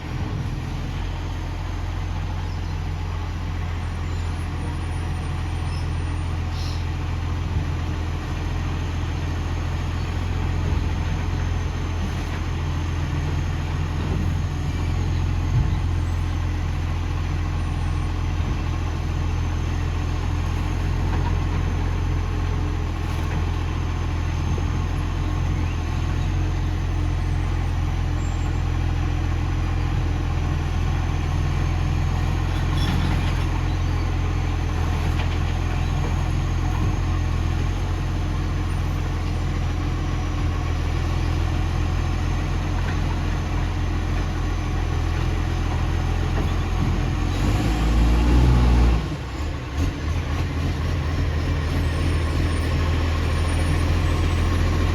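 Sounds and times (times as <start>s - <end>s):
bus engine idling: 0.0s - 54.9s.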